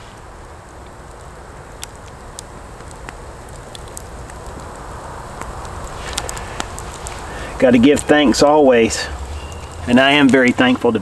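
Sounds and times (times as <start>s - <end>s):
campfire crackling and popping: 0.0s - 11.0s
fire hiss: 0.0s - 11.0s.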